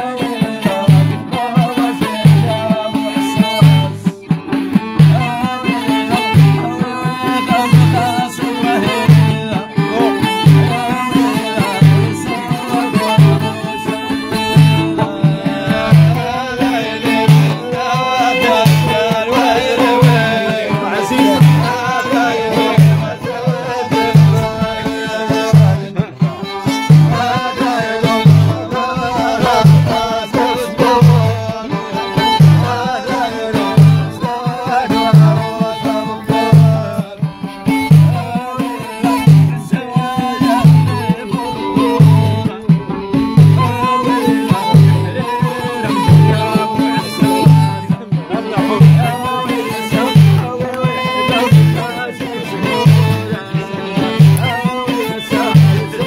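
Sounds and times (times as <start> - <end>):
hand drum beats: 0.0 - 56.0
man singing: 0.0 - 56.0
plucked lutes: 0.0 - 56.0
violin: 0.0 - 56.0.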